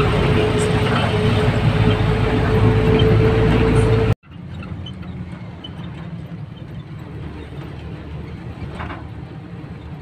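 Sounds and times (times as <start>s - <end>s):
low engine rumble: 0.0s - 10.0s.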